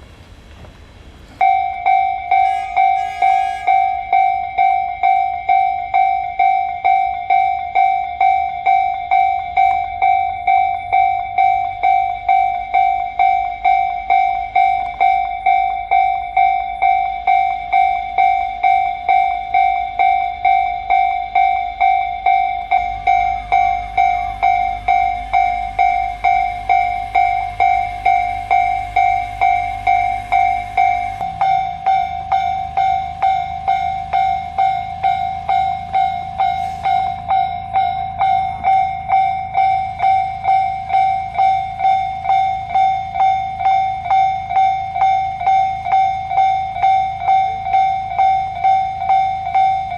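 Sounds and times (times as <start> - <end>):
low rumble of a train: 0.0 - 49.9
level crossing warning bell: 0.9 - 49.9.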